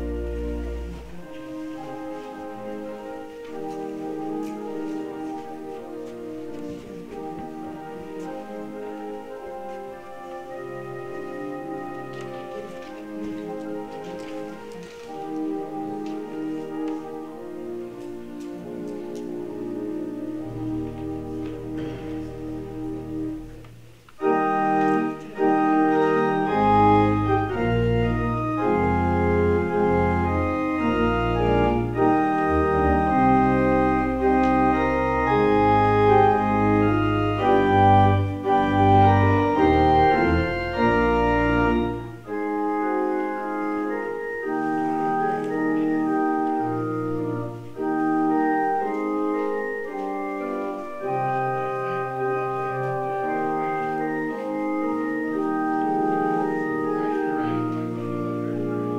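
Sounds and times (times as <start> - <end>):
organ chords: 0.0 - 58.9.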